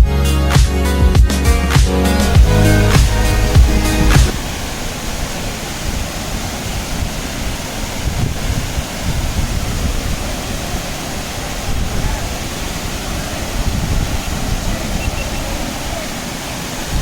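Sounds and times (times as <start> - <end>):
waterfall rushing: 1.9 - 17.0
wind on microphone: 2.0 - 17.0.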